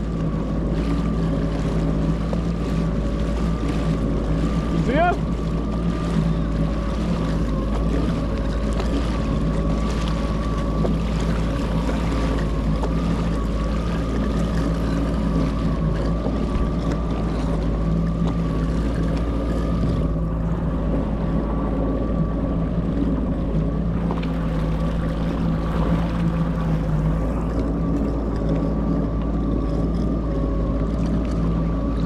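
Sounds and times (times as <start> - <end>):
jet ski engine running: 0.0 - 32.0
water wash: 0.0 - 32.0
wind: 0.0 - 32.0.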